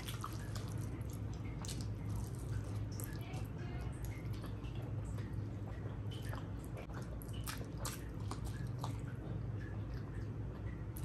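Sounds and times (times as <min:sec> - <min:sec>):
person chewing food: 0:00.0 - 0:11.0
steady low hum: 0:00.0 - 0:11.0.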